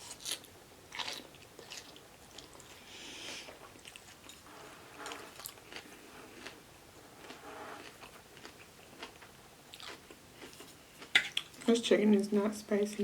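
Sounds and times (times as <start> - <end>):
person chewing and biting food: 0.0 - 11.6.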